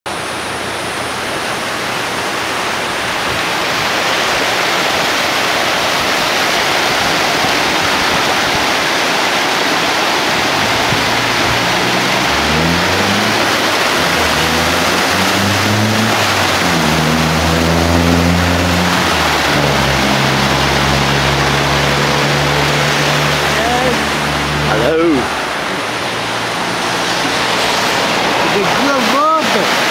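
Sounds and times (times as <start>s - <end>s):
stormwater rushing down canal: 0.1s - 29.9s
vehicle engine accelerating: 0.1s - 29.9s.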